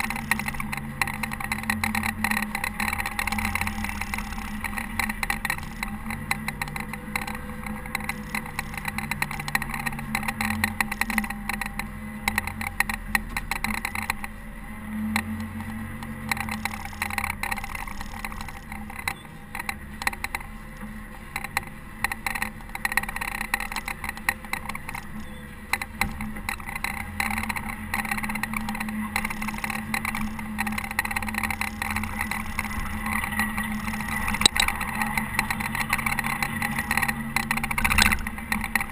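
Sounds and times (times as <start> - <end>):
dense rattling clatter: 0.0 - 14.4, 15.1 - 38.9
diesel engine running under load: 0.0 - 38.9.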